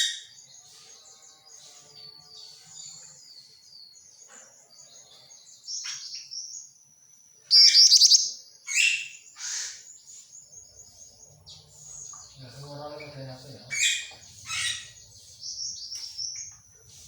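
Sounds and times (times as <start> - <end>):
sharp bird calls: 0.0 - 6.8, 7.4 - 17.0
bird twittering chirps: 0.0 - 17.0.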